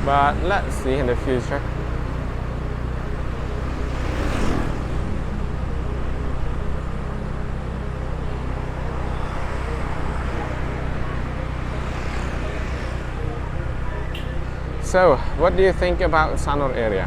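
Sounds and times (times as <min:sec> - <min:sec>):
motorbike engine hum: 0:00.0 - 0:16.9
road and wind noise: 0:00.0 - 0:17.0.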